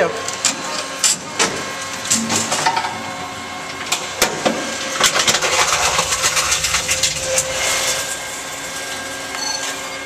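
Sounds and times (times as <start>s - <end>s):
vending machine running: 0.3s - 10.0s.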